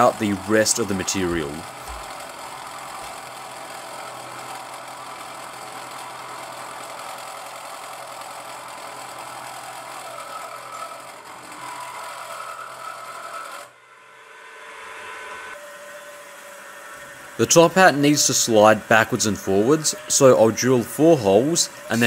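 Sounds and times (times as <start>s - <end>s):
low motor hum: 0.0s - 22.0s
mill cutting steel: 0.0s - 22.0s.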